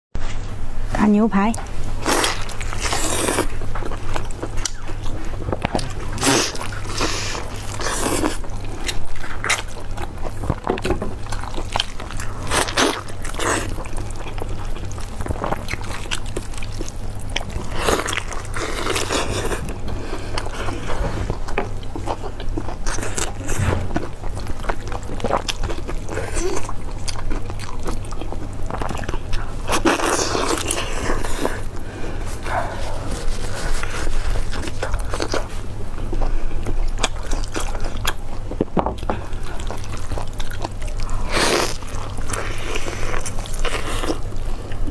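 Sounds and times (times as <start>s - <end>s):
low steady hum: 0.2s - 44.9s
chewing meat: 1.6s - 44.9s.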